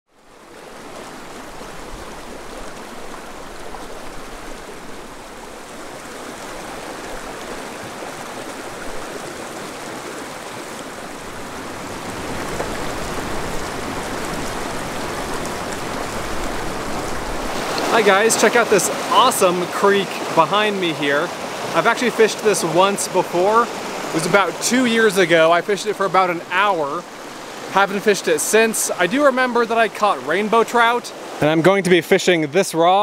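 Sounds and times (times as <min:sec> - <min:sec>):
creek water rushing over rocks: 0:00.1 - 0:33.0.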